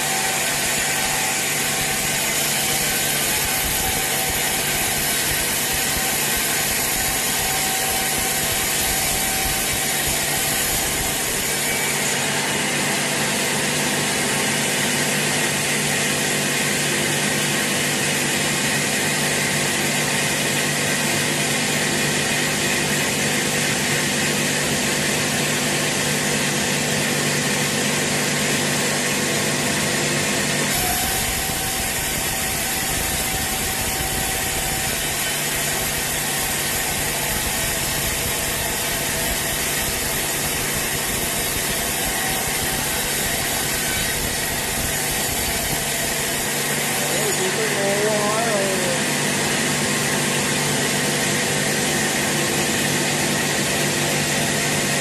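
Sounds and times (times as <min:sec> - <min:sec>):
sawmill saw cutting log: 0:00.0 - 0:55.0
steady machine hum: 0:00.0 - 0:55.0.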